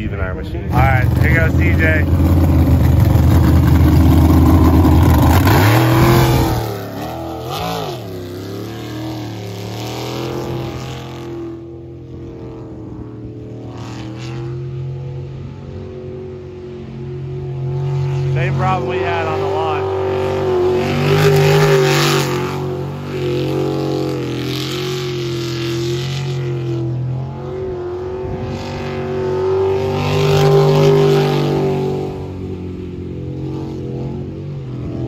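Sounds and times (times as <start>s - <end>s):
jet boat engine revving: 0.1s - 35.0s.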